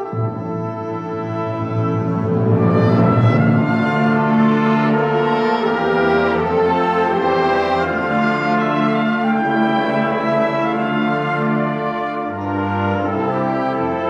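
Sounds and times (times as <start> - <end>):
wind band playing slow chords: 0.0 - 14.0.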